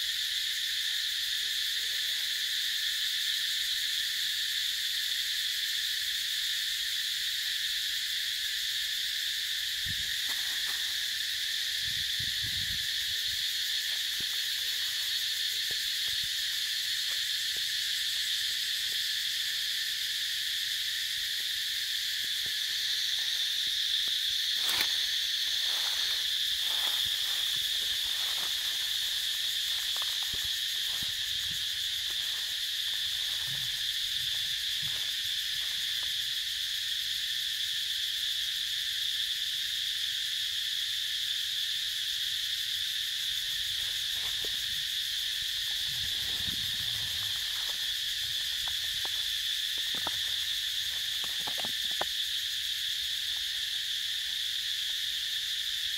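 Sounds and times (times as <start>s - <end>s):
insect chorus droning: 0.0s - 55.9s.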